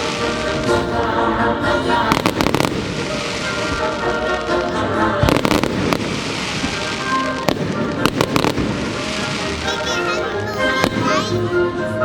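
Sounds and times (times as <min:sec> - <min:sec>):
fireworks bangs and crackles: 0:00.0 - 0:11.7
music playing: 0:00.0 - 0:12.0.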